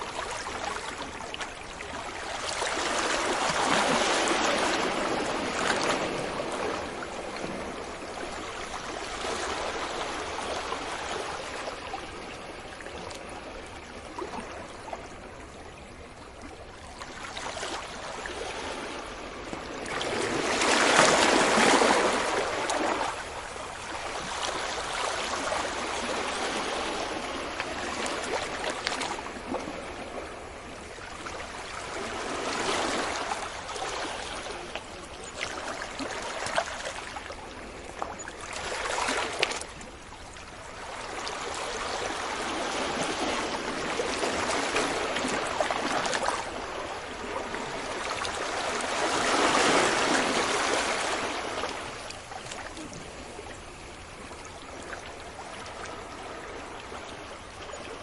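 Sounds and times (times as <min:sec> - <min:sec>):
sea waves breaking on beach: 0:00.0 - 0:15.4, 0:16.8 - 0:58.0.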